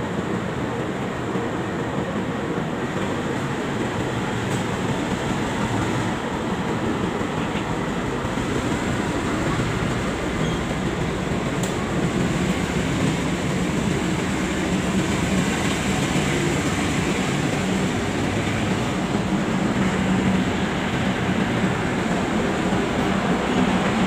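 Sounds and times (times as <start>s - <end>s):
diesel train rumbling: 0.0s - 24.0s.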